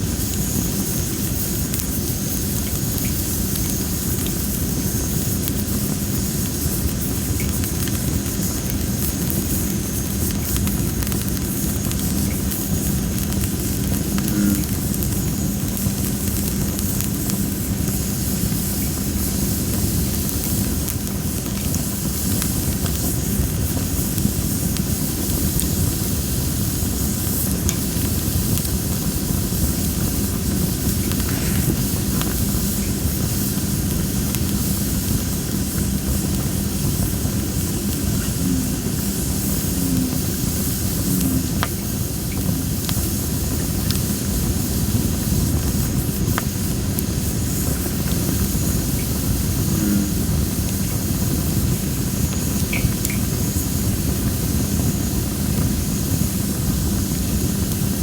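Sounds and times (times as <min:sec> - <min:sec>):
campfire hissing: 0:00.0 - 0:58.0
low fire rumble: 0:00.0 - 0:58.0
small fire crackles: 0:00.0 - 0:58.0.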